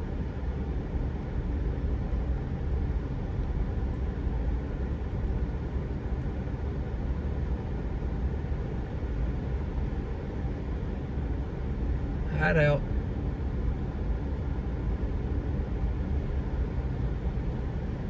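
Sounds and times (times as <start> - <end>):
vehicle engine and tyre noise: 0.0 - 18.0.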